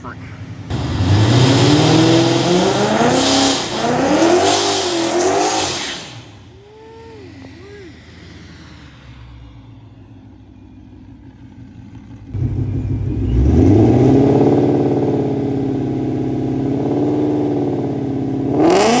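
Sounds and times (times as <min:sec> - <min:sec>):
car engine accelerating hard: 0:00.7 - 0:19.0.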